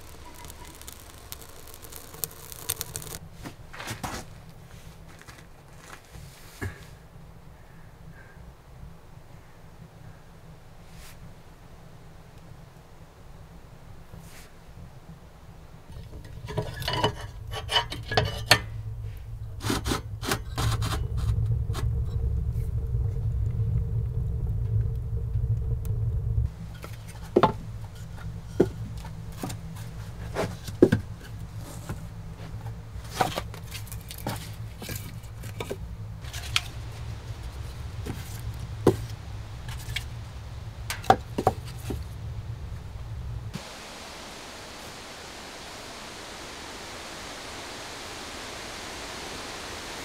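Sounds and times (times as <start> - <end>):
low steady rumble: 0.0 - 3.7, 4.3 - 50.0.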